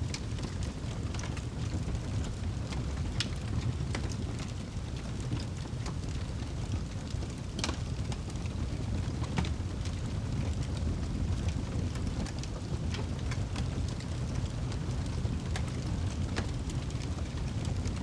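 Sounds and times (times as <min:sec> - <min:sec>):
flames low rumble: 0:00.0 - 0:18.0
wood crackling and popping: 0:00.0 - 0:18.0.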